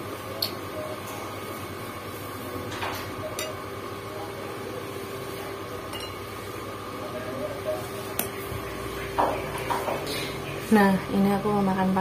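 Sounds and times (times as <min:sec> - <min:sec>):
mechanical room hum: 0:00.0 - 0:12.0.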